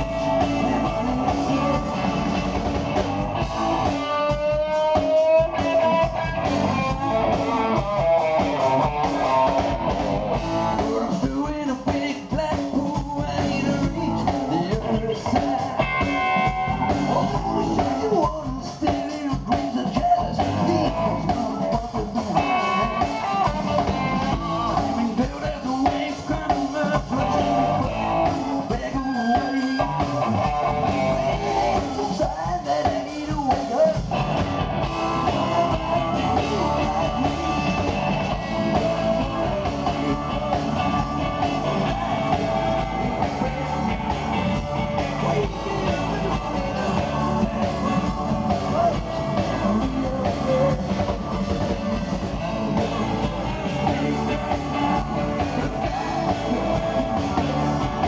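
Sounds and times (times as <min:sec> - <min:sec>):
live blues-rock band: 0:00.0 - 0:58.0.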